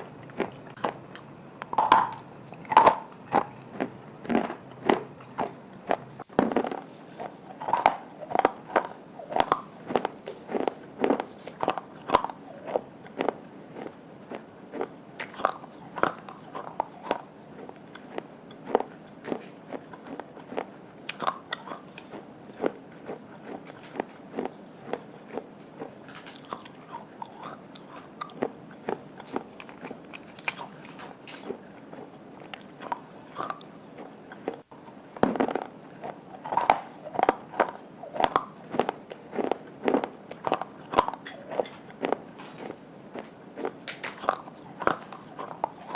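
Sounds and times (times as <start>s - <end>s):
person chewing crunchy clay: 0.0s - 45.9s.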